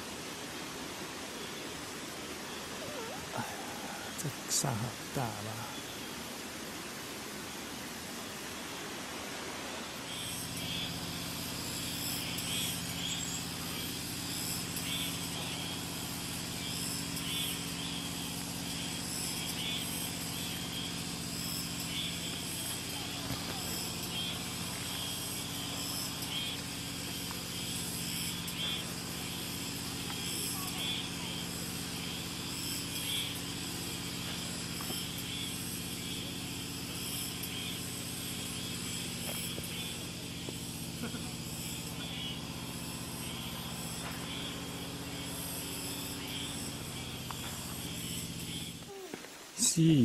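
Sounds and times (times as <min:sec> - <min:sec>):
faint high hiss: 0:00.0 - 0:50.0
low mechanical hum: 0:00.0 - 0:50.0.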